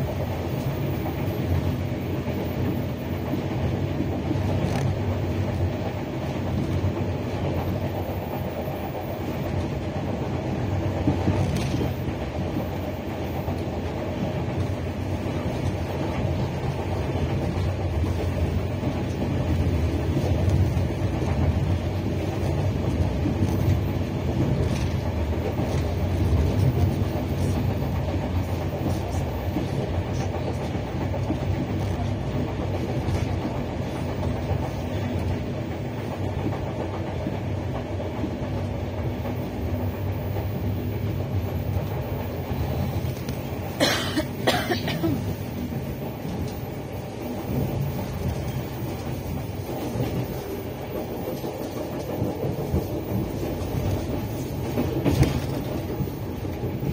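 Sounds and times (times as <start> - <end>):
faint clickety-clack: 0.0 - 56.9
train wheels rumbling on rail: 0.0 - 56.9.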